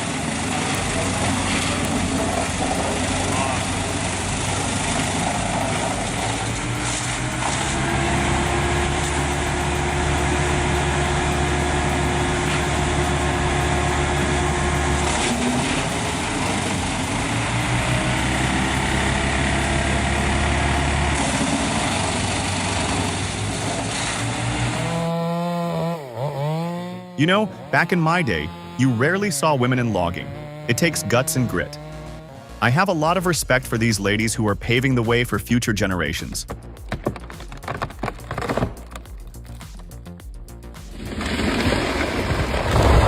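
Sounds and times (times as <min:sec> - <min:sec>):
large engine droning: 0:00.0 - 0:36.2.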